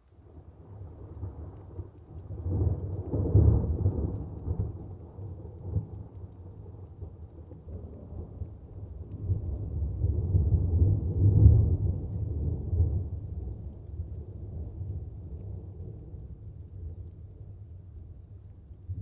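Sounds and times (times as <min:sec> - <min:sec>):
faint raindrops pattering: 0:00.0 - 0:19.0.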